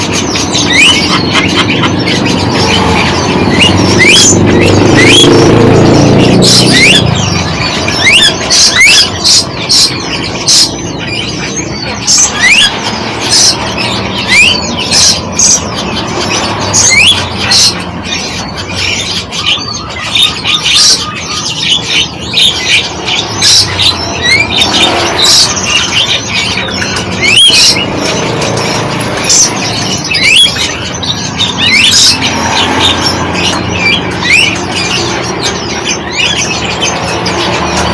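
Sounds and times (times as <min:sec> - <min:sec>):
birds chirping and squawking: 0:00.0 - 0:37.9.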